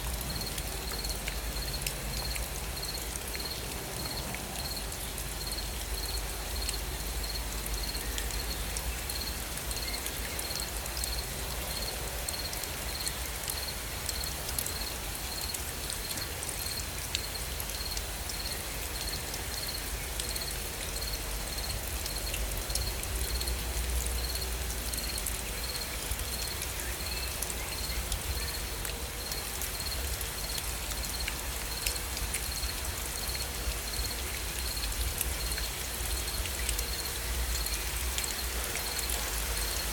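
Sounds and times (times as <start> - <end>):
gentle rain with ticking drops: 0.0 - 39.9.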